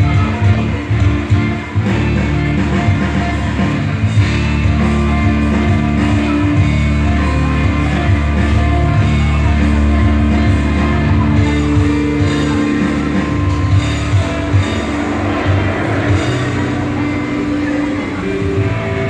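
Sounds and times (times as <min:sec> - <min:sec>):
rock song with guitar and singing: 0:00.0 - 0:19.0.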